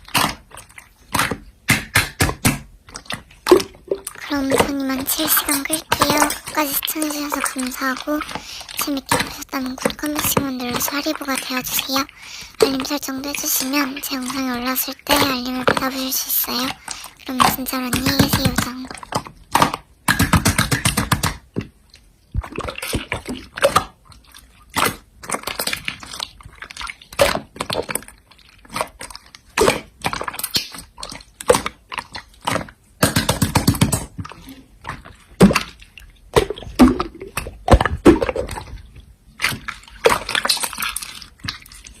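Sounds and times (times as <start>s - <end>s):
slime squelching: 0.0s - 42.0s.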